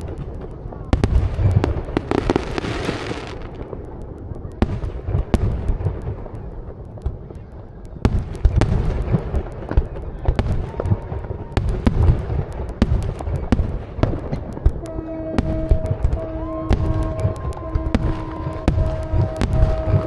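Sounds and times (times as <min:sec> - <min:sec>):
crackling hiss: 0:00.0 - 0:20.0
fireworks booming: 0:00.0 - 0:20.0
sharp firework cracks: 0:00.0 - 0:20.0.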